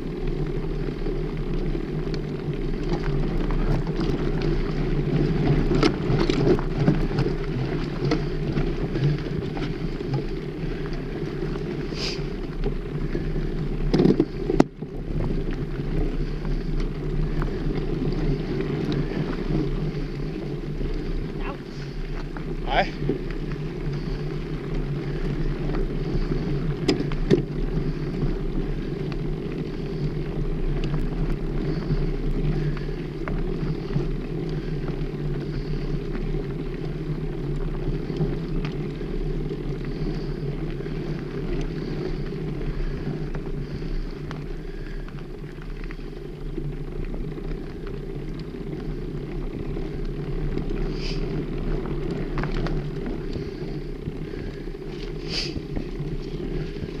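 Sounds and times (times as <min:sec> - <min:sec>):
bicycle clicks and rattles: 0:00.0 - 0:57.0
bicycle tyres rolling on dirt: 0:00.0 - 0:57.0.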